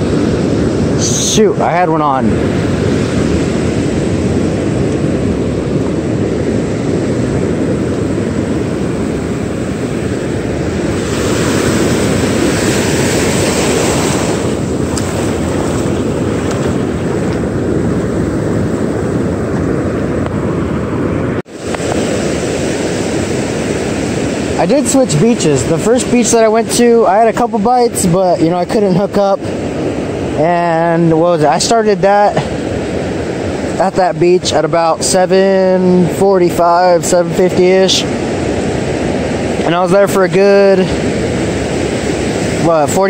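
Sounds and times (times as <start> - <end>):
ocean surf breaking: 0.0 - 43.0
wind buffeting microphone: 0.0 - 43.0.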